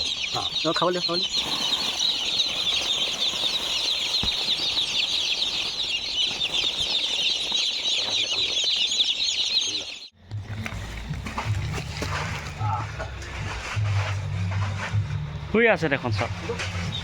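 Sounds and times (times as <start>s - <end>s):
chicks cheeping: 0.0s - 17.0s.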